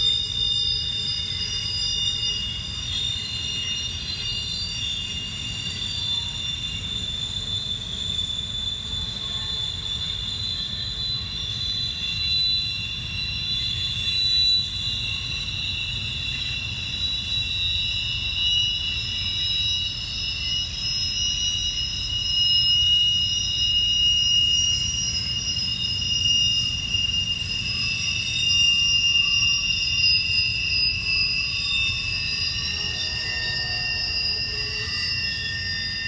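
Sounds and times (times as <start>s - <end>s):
train wheels squealing: 0.0s - 36.0s.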